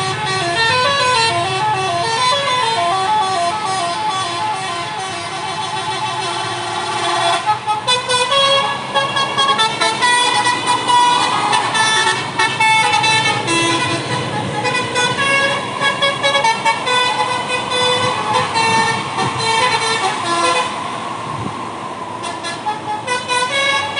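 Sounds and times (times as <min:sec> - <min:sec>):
musical air horn melody: 0:00.0 - 0:20.8, 0:22.2 - 0:23.9.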